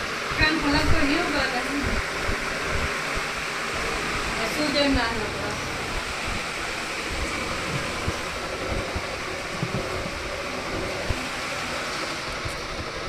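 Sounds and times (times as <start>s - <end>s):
washing machine whooshing: 0.0s - 13.0s.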